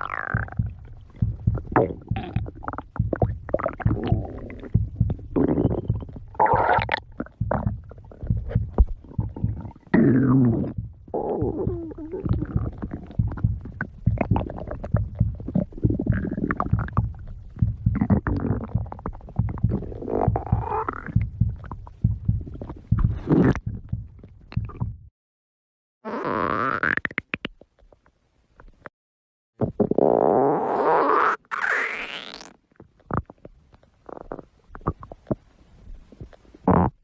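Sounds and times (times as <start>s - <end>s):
stomach growling and gurgling: 0.0s - 25.1s, 29.6s - 37.0s.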